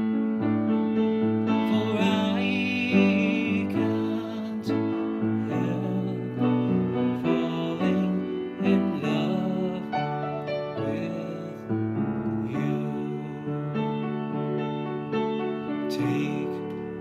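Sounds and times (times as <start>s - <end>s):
piano ballad: 0.0s - 17.0s
man singing: 1.4s - 14.2s, 15.7s - 17.0s.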